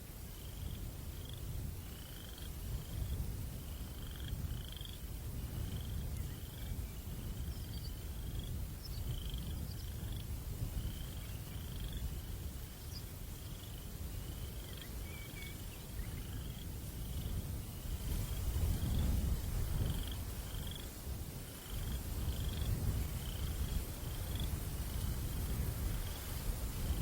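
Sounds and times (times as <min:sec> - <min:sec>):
low rumble of breeze: 0:00.0 - 0:27.0.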